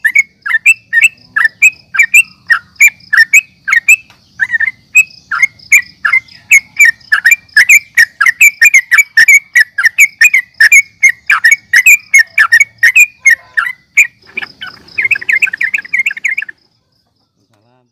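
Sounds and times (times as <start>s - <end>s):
bulbul singing whistled notes: 0.0s - 16.6s.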